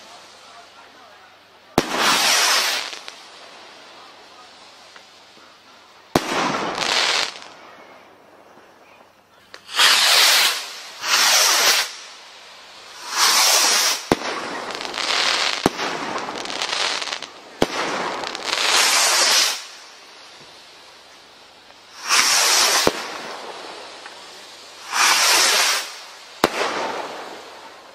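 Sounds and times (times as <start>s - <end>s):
firework bursts cracking: 0.0s - 27.9s
firework rockets whooshing: 0.0s - 27.9s.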